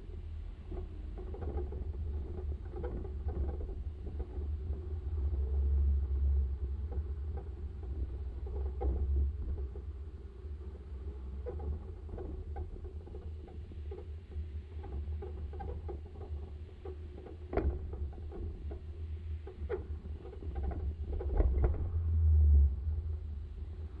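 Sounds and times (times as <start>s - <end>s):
light rattles and clicks: 0.0s - 22.2s
vehicle rumbling on concrete road: 0.0s - 24.0s.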